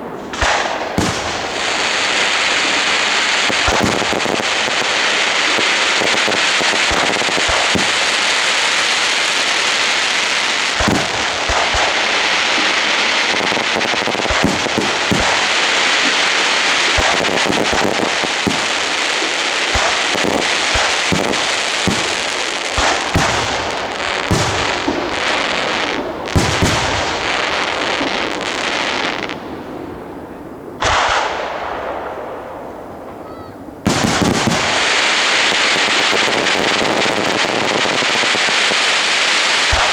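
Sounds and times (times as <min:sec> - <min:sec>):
sharp firework bangs: 0:00.0 - 0:29.7, 0:30.8 - 0:39.9
fireworks crackling: 0:00.0 - 0:39.9.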